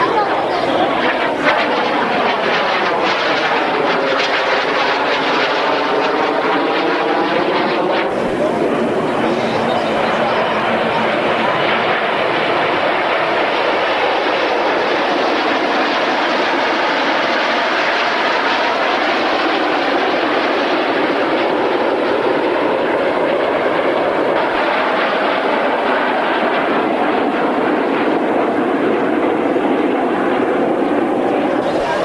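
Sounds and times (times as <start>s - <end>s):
jets flying overhead: 0.0s - 32.0s.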